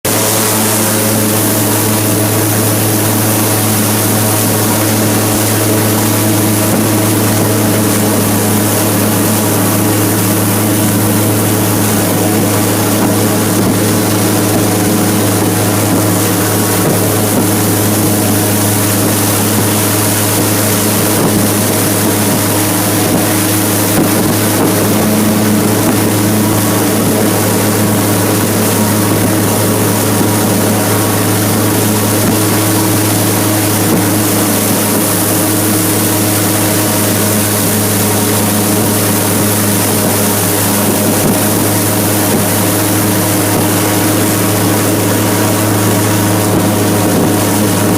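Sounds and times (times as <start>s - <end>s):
airboat engine drone: 0.0s - 47.9s.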